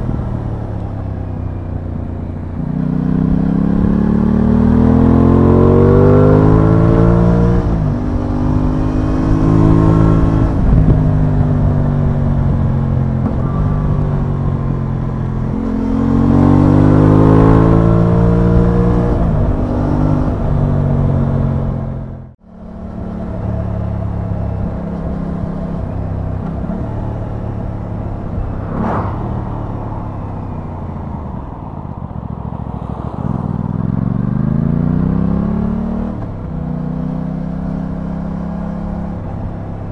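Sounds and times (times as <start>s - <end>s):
motorcycle engine revving: 2.5s - 39.9s.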